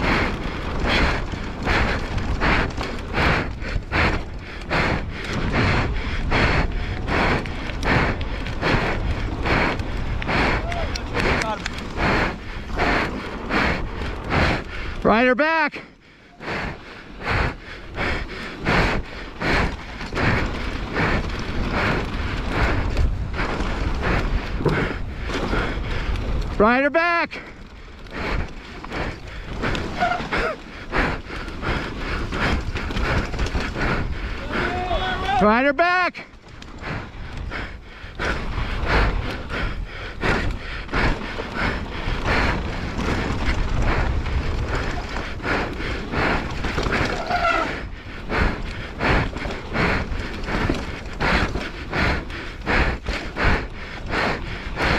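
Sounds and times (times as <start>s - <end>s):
wind buffeting microphone: 0.0s - 15.0s, 16.0s - 26.6s, 27.4s - 35.4s, 36.3s - 54.9s
person breathing hard: 0.0s - 15.1s, 15.7s - 26.6s, 27.3s - 35.5s, 36.2s - 54.9s
tyres rolling on dirt: 0.0s - 54.9s.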